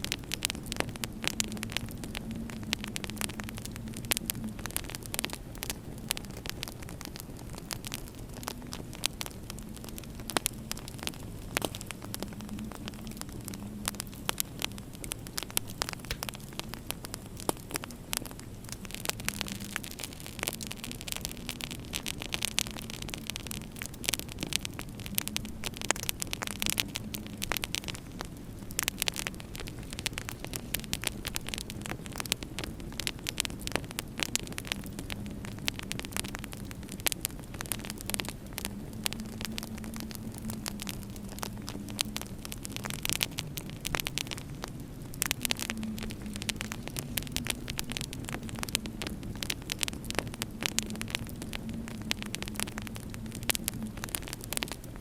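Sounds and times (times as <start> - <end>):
low hum and hiss: 0.0 - 55.0
wood fire crackling: 0.0 - 55.0.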